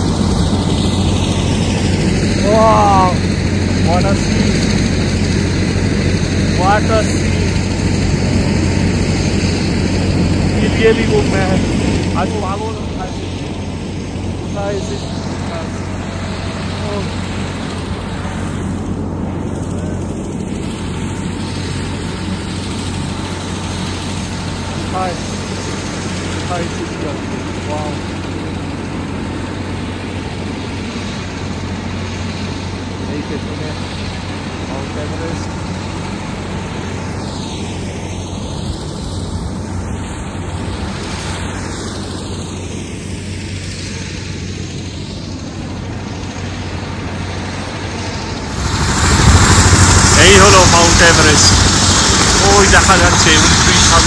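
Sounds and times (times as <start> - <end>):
aircraft engines droning in cabin: 0.0 - 54.0.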